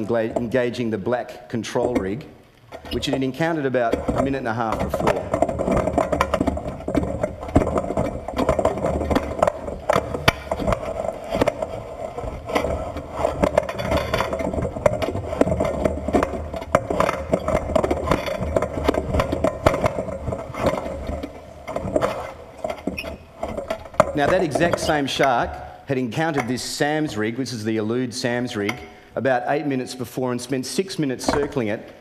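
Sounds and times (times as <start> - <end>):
underwater knocks and rattles: 0.0 - 27.4, 30.9 - 32.0.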